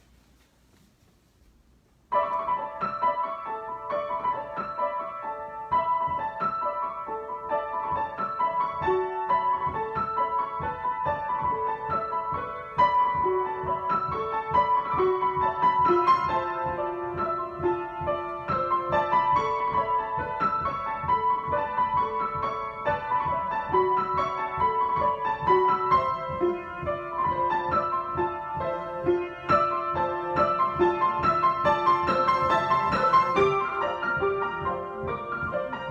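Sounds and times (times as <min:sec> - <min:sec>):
solo piano: 0:00.0 - 0:35.9.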